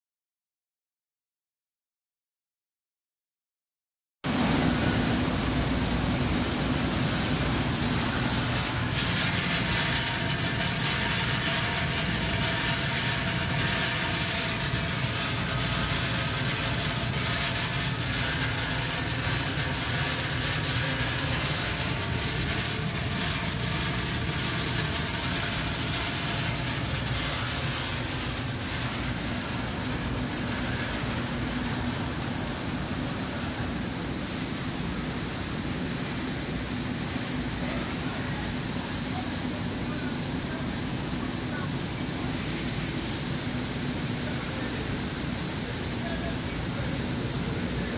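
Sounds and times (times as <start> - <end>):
roasting machine humming and hissing: 4.2 - 47.9.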